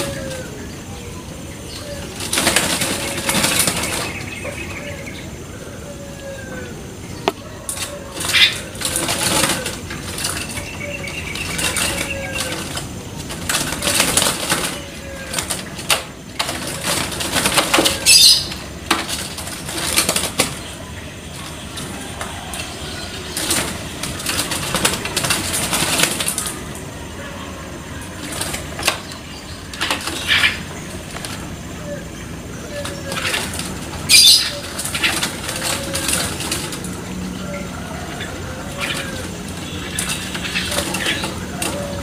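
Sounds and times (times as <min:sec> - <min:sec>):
short falling bird calls: 0:00.0 - 0:42.0.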